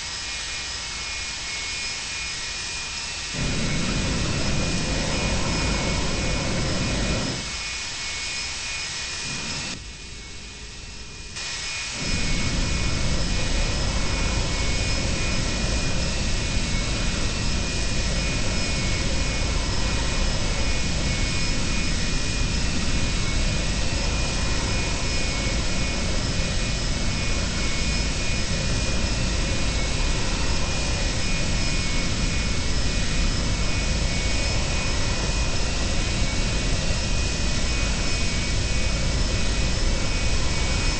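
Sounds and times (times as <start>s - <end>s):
jet engine roar with whine: 0.0s - 40.9s.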